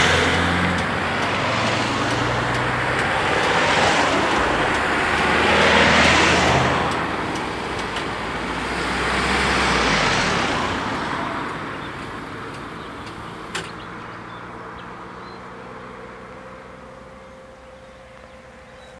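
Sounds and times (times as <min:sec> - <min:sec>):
vehicles passing close by: 0:00.0 - 0:18.9.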